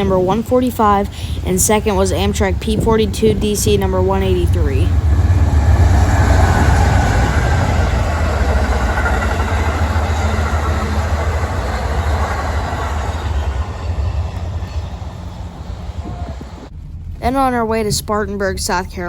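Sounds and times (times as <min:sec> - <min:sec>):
passenger train rolling past: 0:00.0 - 0:19.0.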